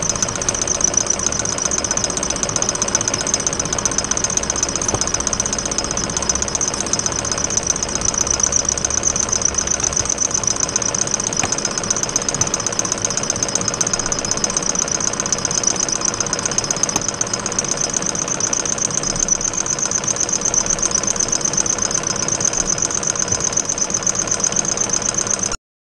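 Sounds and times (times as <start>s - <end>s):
steady high-pitched tone: 0.0s - 24.9s
engine mechanical chugging: 0.0s - 25.6s.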